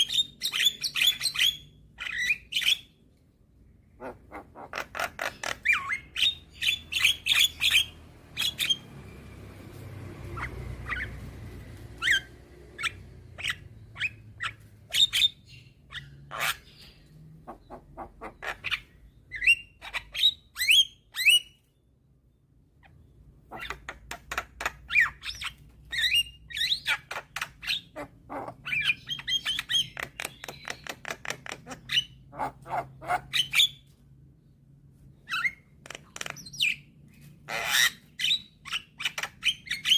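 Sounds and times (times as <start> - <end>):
bird chirping and squawking: 0.0 - 21.8, 22.7 - 39.9.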